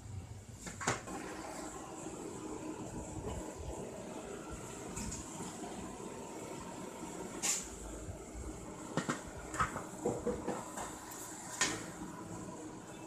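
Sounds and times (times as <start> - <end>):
steam hissing: 1.1 - 13.0.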